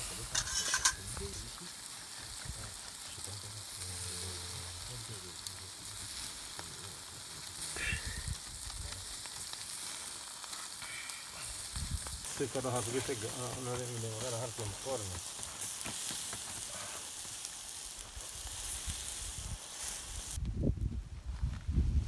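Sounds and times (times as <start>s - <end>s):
meat sizzling on a grill: 0.0s - 20.4s.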